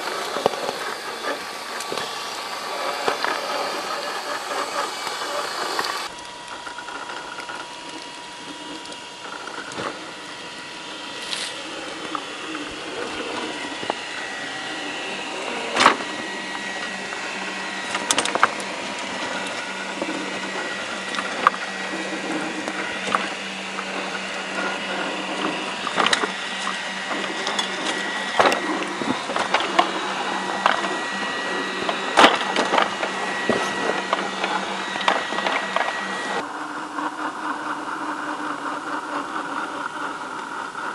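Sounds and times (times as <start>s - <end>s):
electric motor whining: 0.0s - 40.9s.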